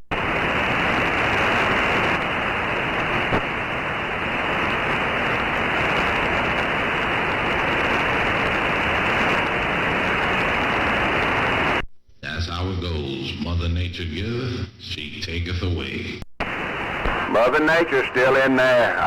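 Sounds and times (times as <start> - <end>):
radio static hiss: 0.1 - 19.0.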